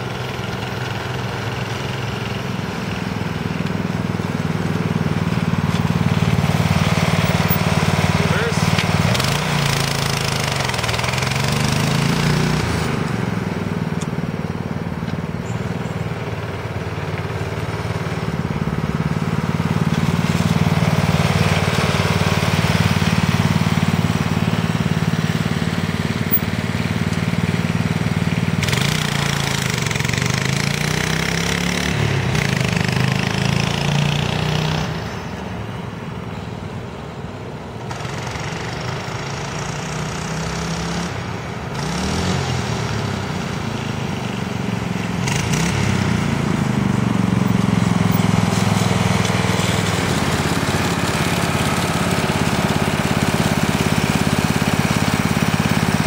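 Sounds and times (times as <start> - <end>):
small go-kart engine running: 0.0 - 56.0.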